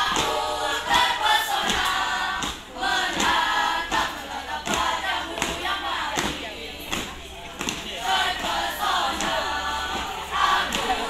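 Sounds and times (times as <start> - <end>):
young voices singing in unison: 0.0 - 11.0.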